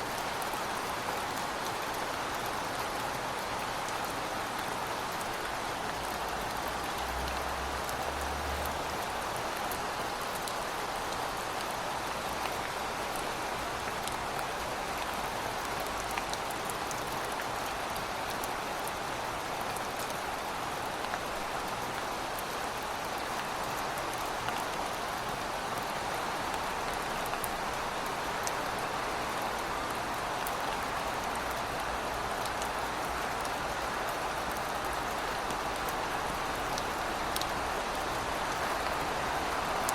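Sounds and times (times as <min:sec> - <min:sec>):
raindrops ticking on surfaces: 0:00.0 - 0:39.9.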